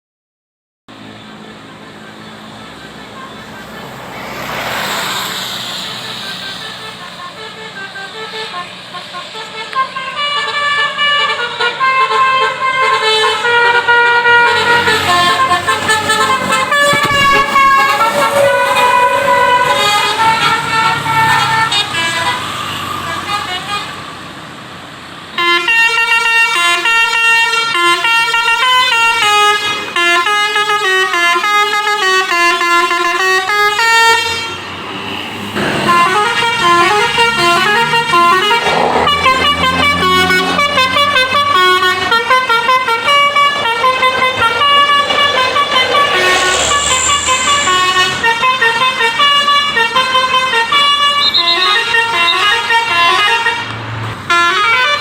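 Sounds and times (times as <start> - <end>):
multi-tone bus horn melody: 0.9 - 24.6, 25.2 - 55.0.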